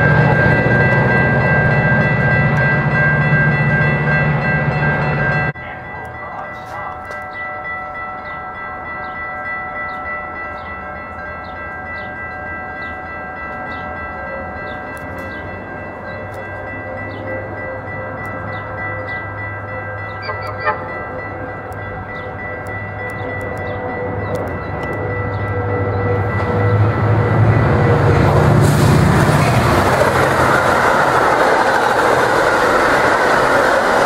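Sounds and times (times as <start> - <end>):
diesel locomotive rumble: 0.0 - 8.2, 12.0 - 34.0
crossing warning bells ringing: 0.0 - 34.0.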